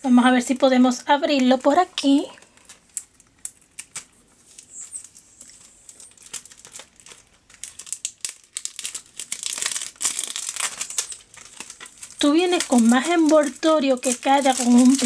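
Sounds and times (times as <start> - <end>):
plastic wrap crinkling: 0.4 - 15.0.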